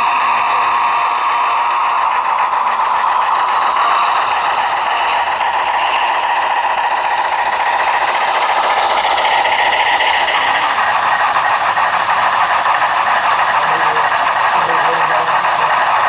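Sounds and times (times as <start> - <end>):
model train wheels rattling: 1.8 - 16.0.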